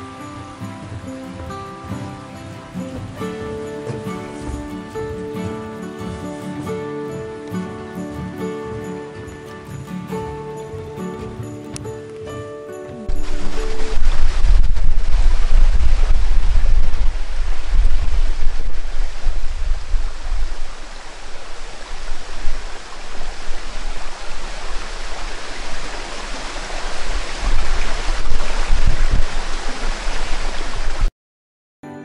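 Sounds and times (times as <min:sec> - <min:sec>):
wind rumbling on microphone: 0:00.0 - 0:12.0, 0:13.1 - 0:31.1
flowing water hiss: 0:00.0 - 0:31.1.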